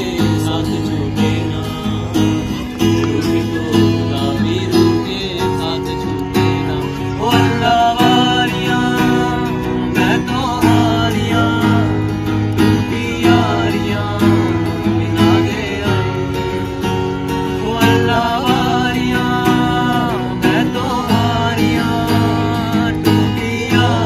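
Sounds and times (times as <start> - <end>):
acoustic guitar strumming: 0.0 - 24.0
man singing: 0.0 - 24.0.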